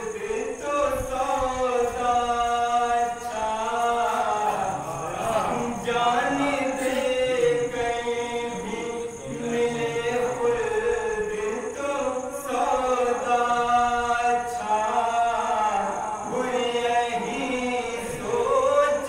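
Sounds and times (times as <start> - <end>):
man chanting into a microphone: 0.0 - 19.0.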